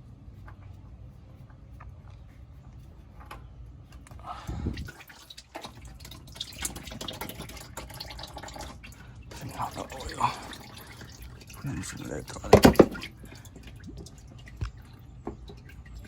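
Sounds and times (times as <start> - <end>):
oil dripping and trickling: 0.0 - 16.0.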